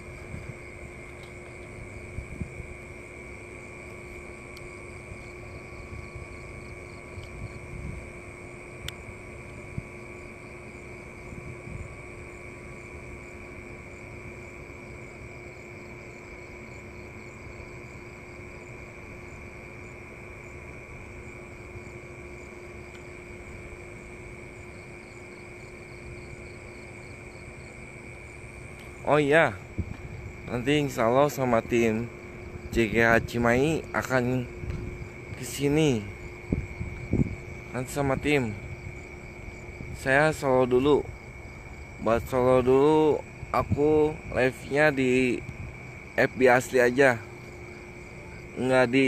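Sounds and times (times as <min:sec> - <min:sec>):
crickets chirping: 0:00.0 - 0:49.0.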